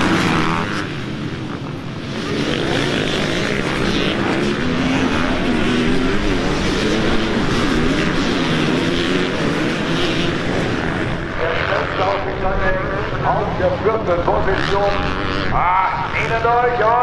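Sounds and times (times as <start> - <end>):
motocross bike engines racing: 0.0 - 17.0.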